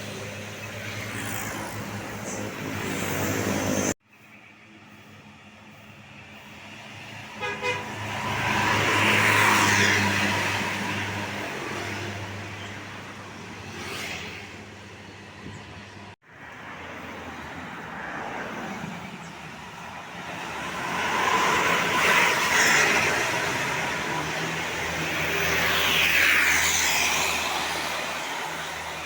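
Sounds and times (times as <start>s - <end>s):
buses driving past: 0.0s - 29.0s.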